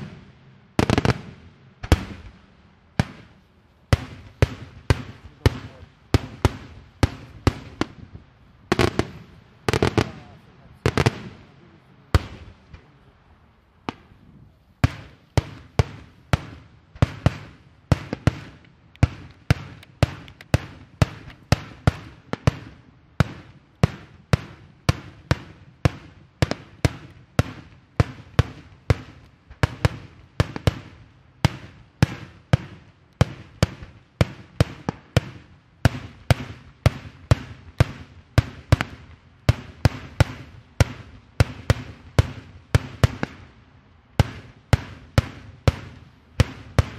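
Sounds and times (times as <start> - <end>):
fireworks bursting with sharp bangs: 0.0 - 46.9.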